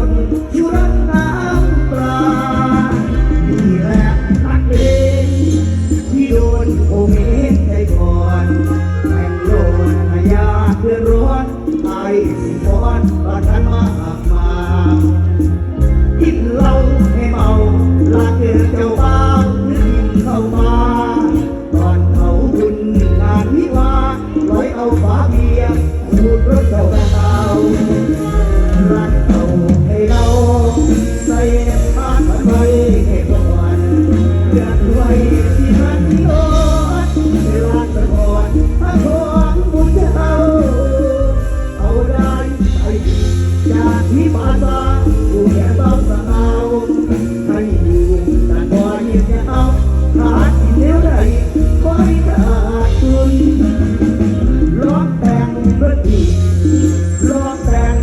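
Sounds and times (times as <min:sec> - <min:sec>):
heavy bass: 0:00.0 - 0:58.0
live band music: 0:00.0 - 0:58.0
person singing: 0:00.0 - 0:58.0
steady cymbal beat: 0:00.0 - 0:58.0
wavering melodic lead line: 0:00.0 - 0:58.0.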